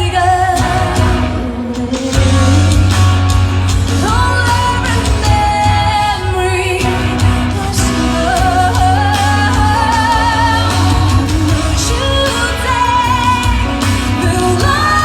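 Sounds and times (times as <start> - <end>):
live pop band with heavy bass: 0.0 - 15.0
woman singing with vibrato: 0.0 - 15.0.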